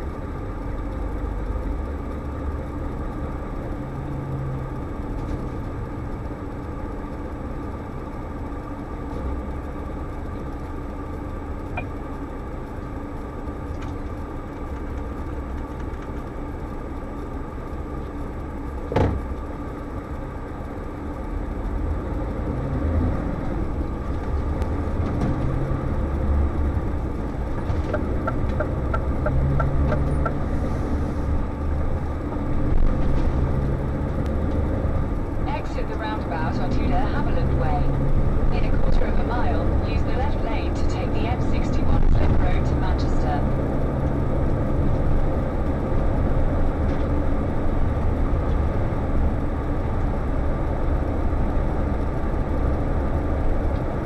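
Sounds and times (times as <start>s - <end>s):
diesel engine from inside cab: 0.0s - 54.0s.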